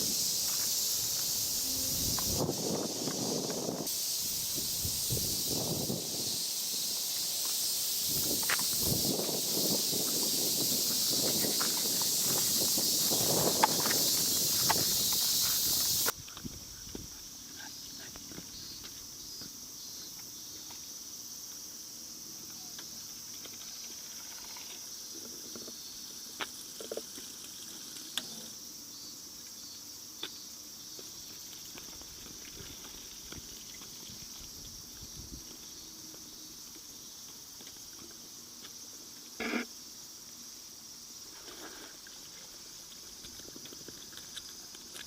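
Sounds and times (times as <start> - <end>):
insect chorus drone: 0.0 - 45.0.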